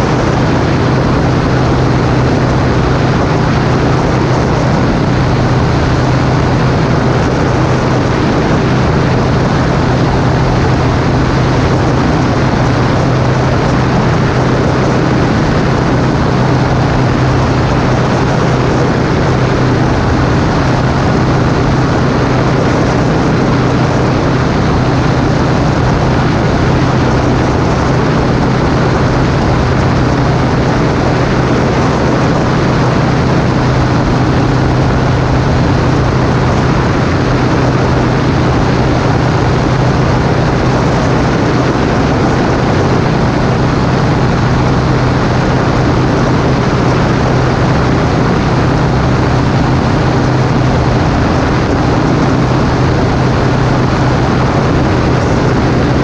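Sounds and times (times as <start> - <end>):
microlight engine drone: 0.0 - 56.0
rushing air: 0.0 - 56.0.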